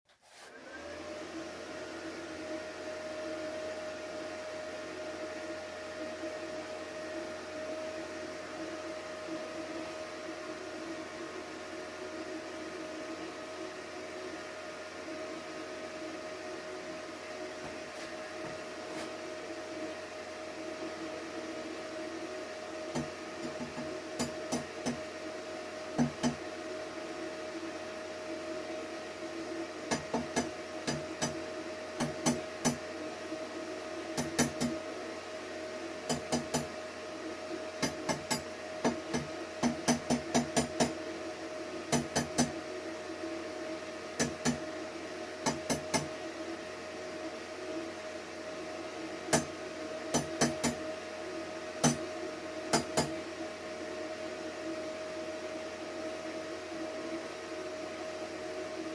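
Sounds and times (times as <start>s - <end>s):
welder electrical hum: 0.1s - 58.9s.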